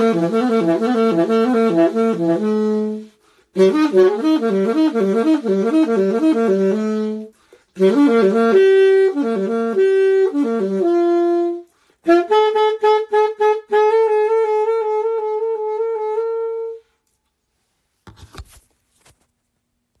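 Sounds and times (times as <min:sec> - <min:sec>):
saxophone melody: 0:00.0 - 0:17.0.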